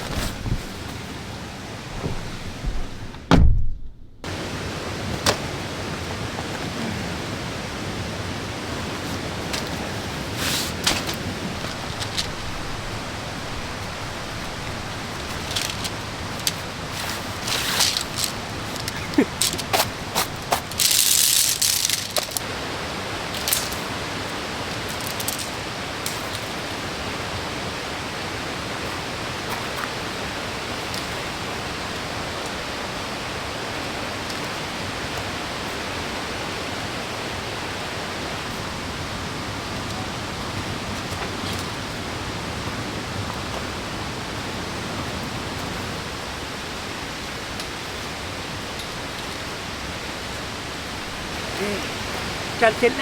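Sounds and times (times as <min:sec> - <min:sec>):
waterfall and stream rushing: 0:04.2 - 0:53.0.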